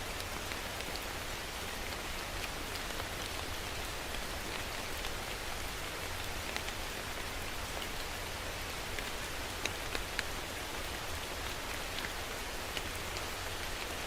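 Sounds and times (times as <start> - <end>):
raindrops pattering on hard surface: 0.0 - 14.0
steady rain falling: 0.0 - 14.0.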